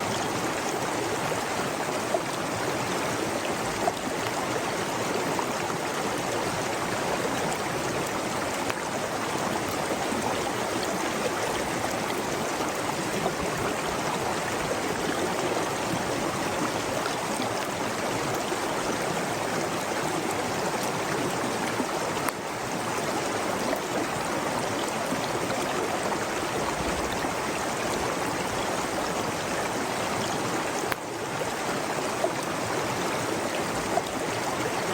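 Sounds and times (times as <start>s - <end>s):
river water flowing: 0.0s - 34.9s.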